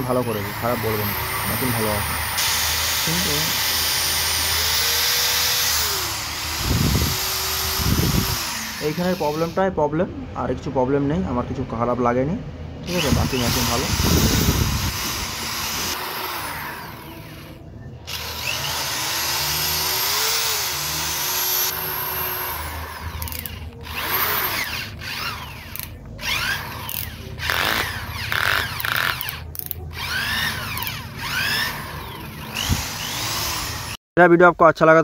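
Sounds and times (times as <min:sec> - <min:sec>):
electric drill motor whining: 0:00.0 - 0:09.6, 0:12.8 - 0:34.0.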